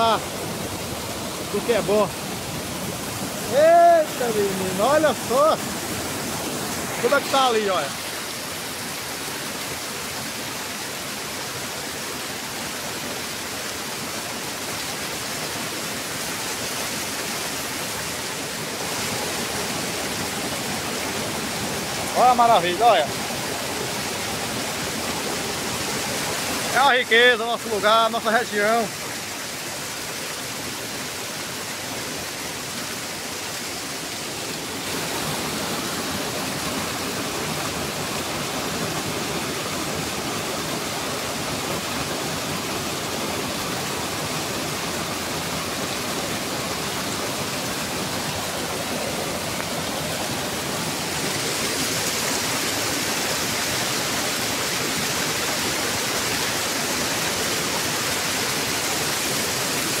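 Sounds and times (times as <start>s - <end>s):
river water rushing: 0.0s - 60.0s.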